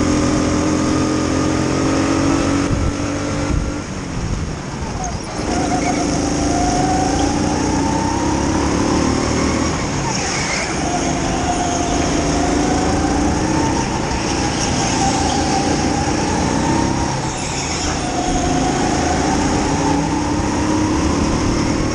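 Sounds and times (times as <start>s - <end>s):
go-kart engine running hard: 0.0s - 21.9s.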